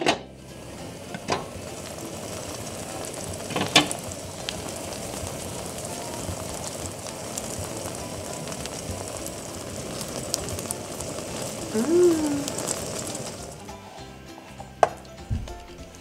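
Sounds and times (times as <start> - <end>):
omelette sizzling in pan: 0.0 - 16.0.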